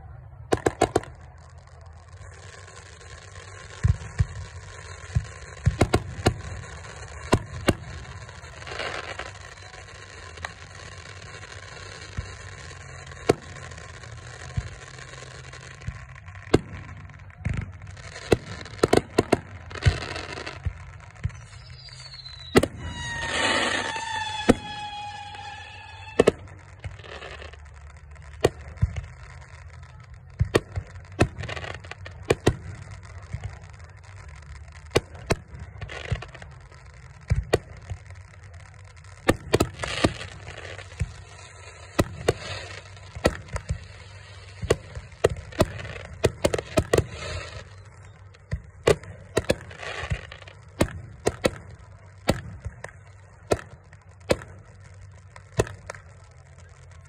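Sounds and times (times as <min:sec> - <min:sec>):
fireworks bangs and pops: 0:00.1 - 0:57.0
crackling hiss: 0:00.5 - 0:57.0.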